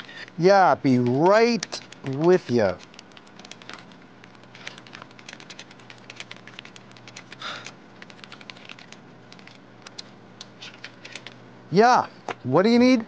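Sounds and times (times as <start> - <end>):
keyboard typing: 0.0 - 11.4.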